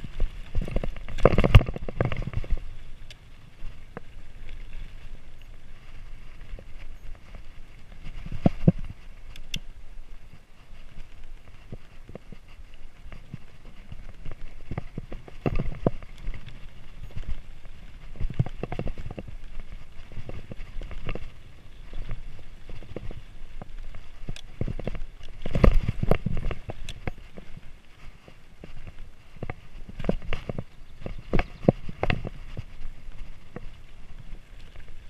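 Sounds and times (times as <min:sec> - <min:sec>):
bike knocking and rattling: 0:00.0 - 0:35.0.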